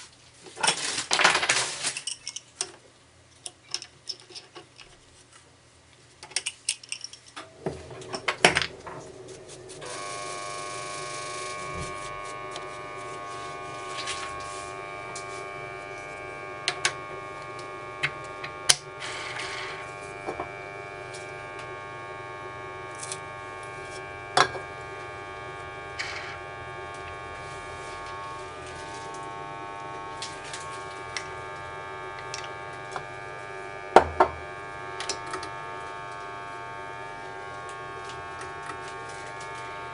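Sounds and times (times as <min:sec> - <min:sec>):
electric drill motor whining: 0:07.6 - 0:39.9.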